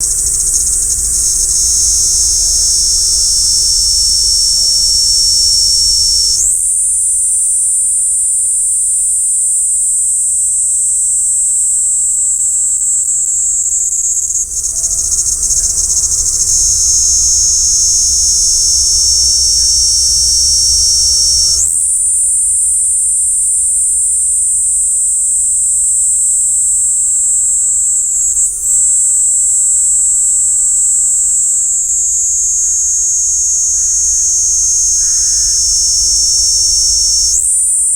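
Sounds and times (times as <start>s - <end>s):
cicada shrill drone: 0.0s - 37.9s.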